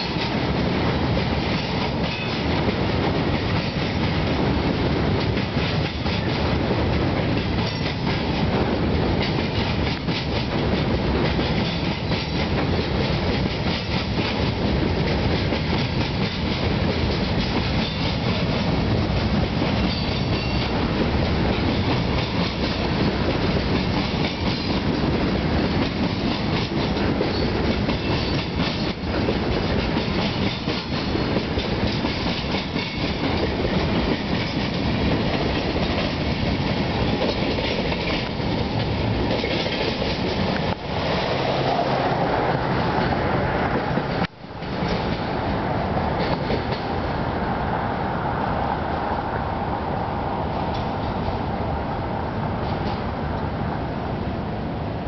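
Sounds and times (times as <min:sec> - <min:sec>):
train wheels clicking: 0:00.0 - 0:45.4
freight train wheels rumbling: 0:00.0 - 0:55.0.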